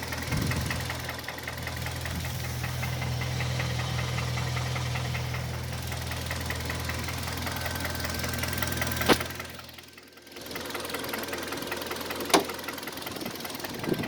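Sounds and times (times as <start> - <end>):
car engine idling with knocking: 0.0 - 14.0.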